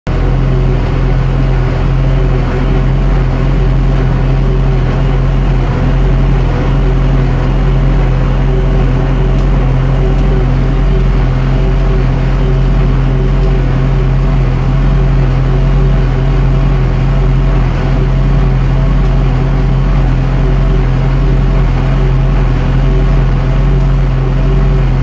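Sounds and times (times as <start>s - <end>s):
tractor and baler droning: 0.1s - 25.0s.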